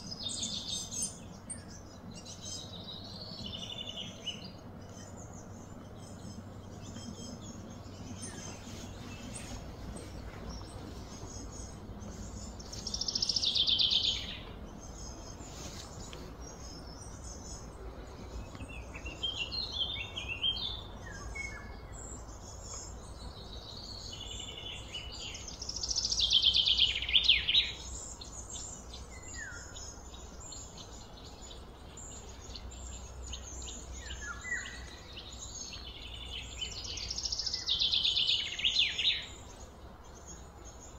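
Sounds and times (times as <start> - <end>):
birds calling: 0.0 - 40.9.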